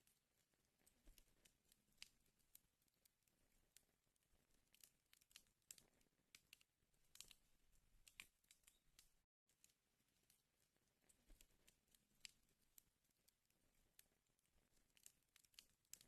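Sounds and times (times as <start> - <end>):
wood fire crackling: 0.0 - 16.0
sharp pops and snaps: 0.8 - 16.0.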